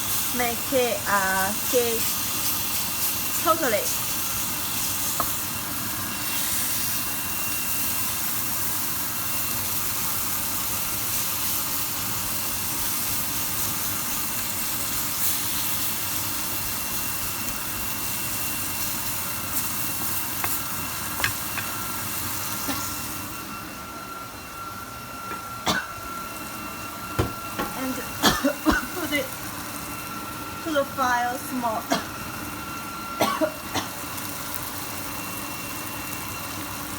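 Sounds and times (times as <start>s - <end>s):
meat sizzling in a pan: 0.0s - 23.7s, 24.6s - 36.9s.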